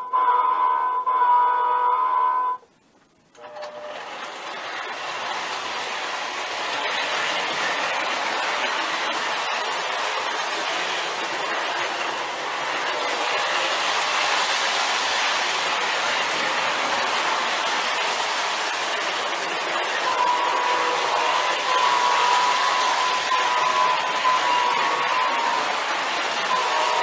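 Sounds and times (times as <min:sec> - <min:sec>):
model train rolling on track: 0:00.0 - 0:27.0.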